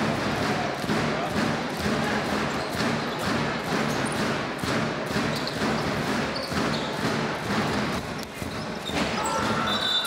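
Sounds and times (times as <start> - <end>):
crowd noise: 0.0 - 10.0
basketball dribbling on hardwood: 0.2 - 9.6.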